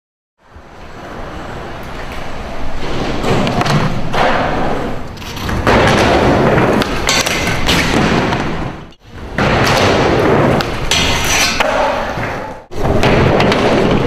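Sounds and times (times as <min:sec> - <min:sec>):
skateboard wheels rolling on concrete: 0:00.4 - 0:10.9, 0:11.6 - 0:14.0
skateboard clacks and thuds: 0:02.0 - 0:14.0.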